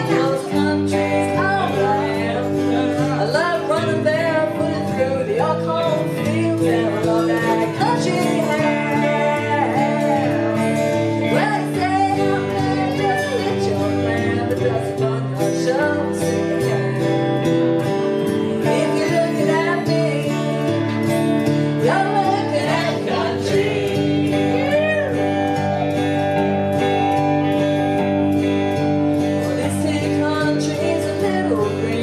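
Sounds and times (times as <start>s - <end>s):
woman singing into a microphone: 0.0s - 25.4s, 29.4s - 32.0s
guitar: 0.0s - 32.0s.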